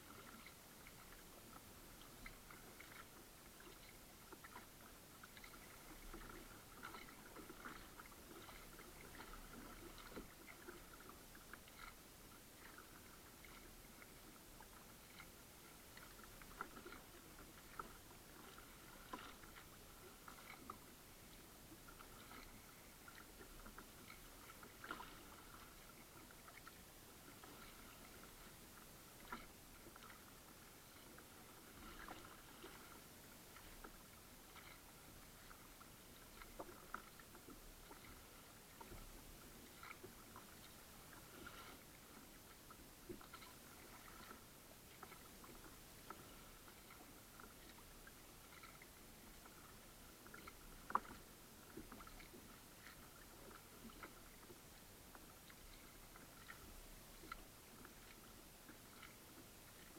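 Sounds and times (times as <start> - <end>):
kayak paddle splashing water: 0.0 - 59.9.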